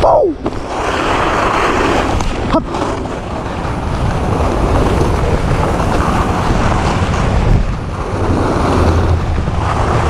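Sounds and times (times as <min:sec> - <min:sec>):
wind blowing over microphone: 0:00.0 - 0:10.0
skis scraping over hard snow: 0:00.4 - 0:10.0.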